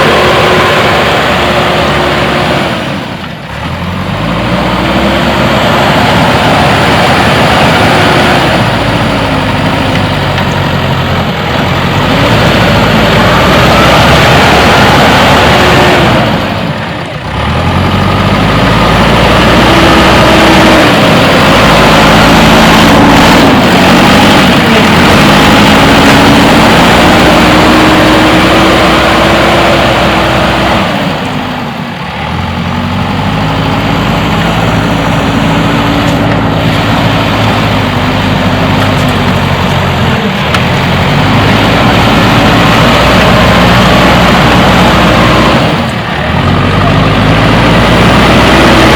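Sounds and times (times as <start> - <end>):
diesel engine revving: 0.0 - 48.9.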